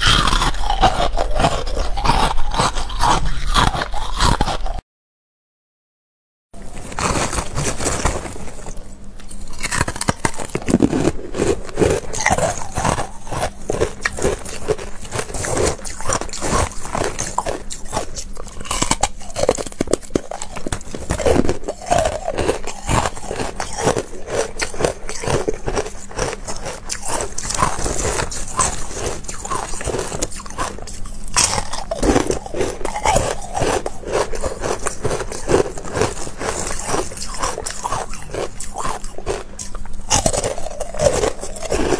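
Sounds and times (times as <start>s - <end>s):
ice crunching while chewed: 0.0s - 4.8s, 6.6s - 41.9s
fingers scraping ice in plastic bowl: 6.8s - 41.9s.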